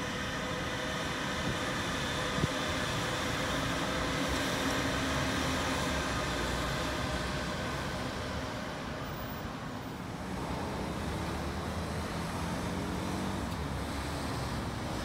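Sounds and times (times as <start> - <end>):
train rushing rail noise: 0.0 - 15.0.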